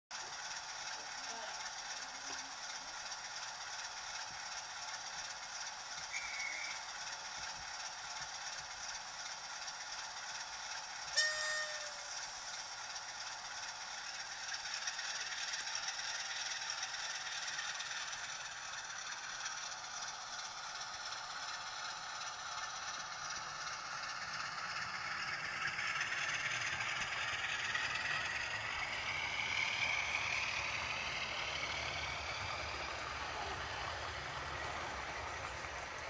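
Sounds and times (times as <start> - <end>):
model train motor whirring: 0.2 - 36.0.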